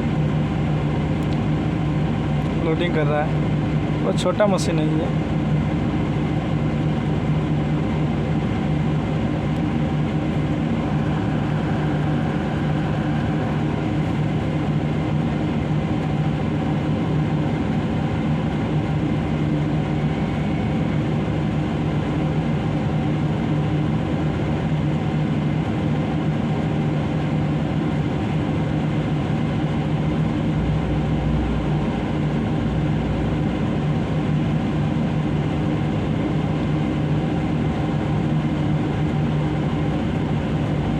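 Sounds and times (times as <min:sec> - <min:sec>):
heavy diesel engines droning: 0:00.0 - 0:40.9.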